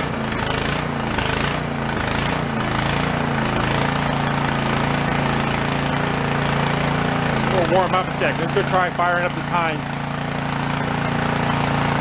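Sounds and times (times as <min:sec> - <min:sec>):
tiller engine running: 0:00.0 - 0:12.0.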